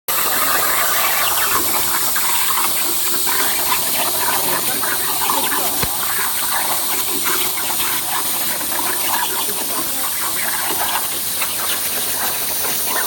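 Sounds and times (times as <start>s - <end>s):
plasma cutter hissing: 0.1s - 13.0s.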